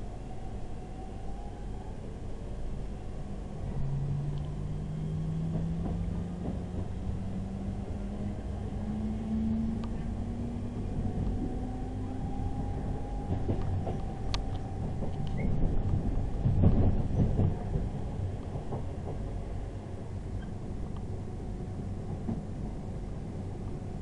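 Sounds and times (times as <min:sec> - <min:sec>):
wheels rumbling on track: 0:01.6 - 0:24.0.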